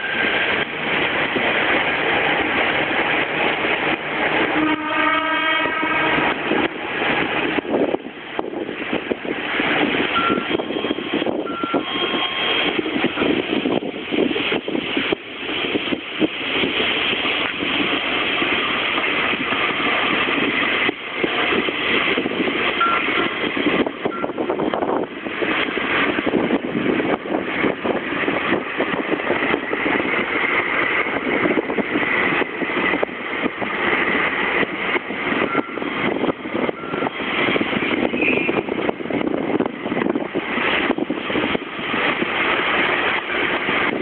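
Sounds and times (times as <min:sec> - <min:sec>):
diesel locomotive running: 0:00.0 - 0:44.0.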